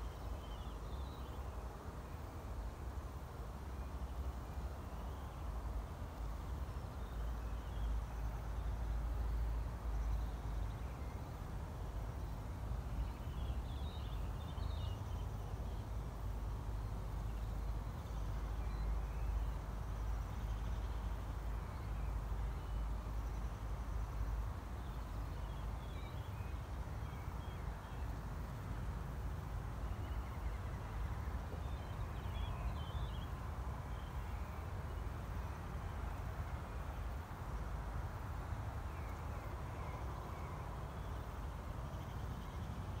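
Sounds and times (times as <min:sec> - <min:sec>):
low rumble of wind: 0:00.0 - 0:43.0.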